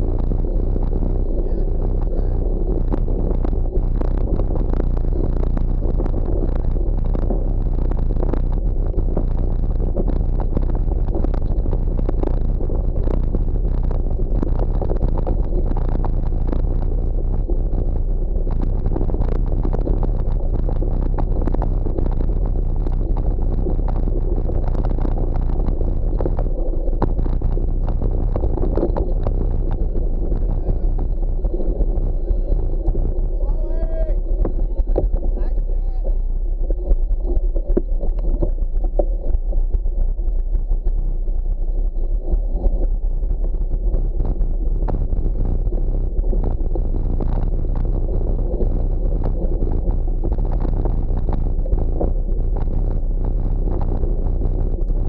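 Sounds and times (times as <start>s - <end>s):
tyres and wind rumbling: 0.0s - 55.0s.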